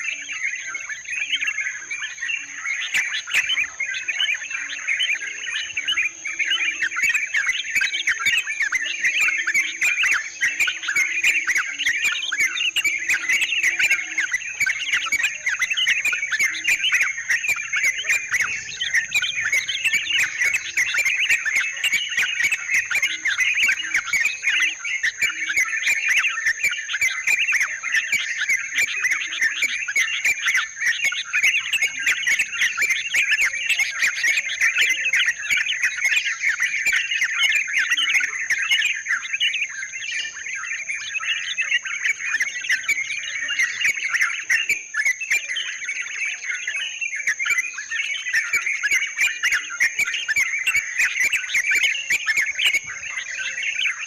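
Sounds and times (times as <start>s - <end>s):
bulbuls chattering: 0.0s - 54.0s.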